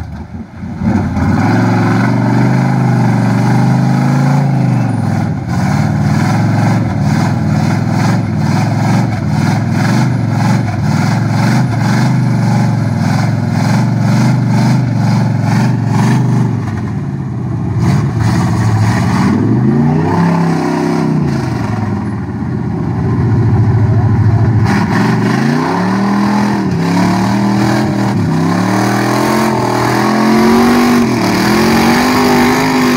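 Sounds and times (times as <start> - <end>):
pickup engine revving under load: 0.0 - 32.9.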